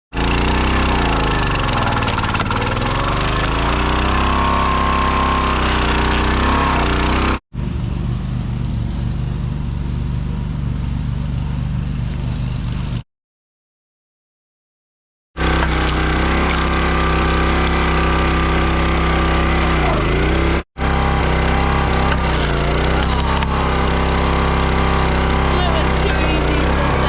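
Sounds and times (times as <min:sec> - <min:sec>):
gas engine running: 0:00.1 - 0:13.0, 0:15.4 - 0:27.0.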